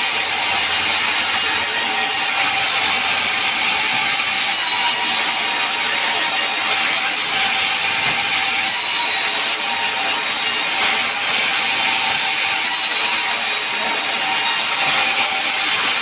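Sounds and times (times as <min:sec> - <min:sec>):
saw blade whining through wood: 0:00.0 - 0:16.0.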